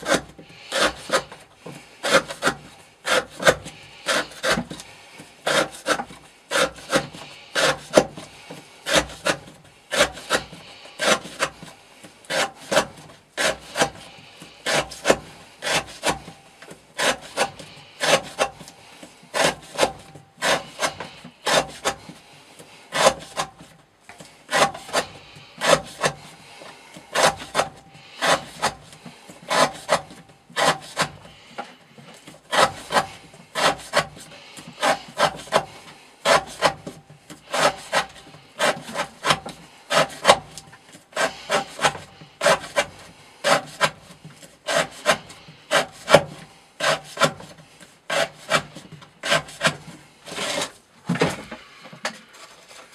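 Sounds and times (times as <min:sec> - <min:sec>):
knife blade rasping scrapes: 0:00.0 - 0:11.7, 0:12.3 - 0:22.2, 0:22.9 - 0:50.8.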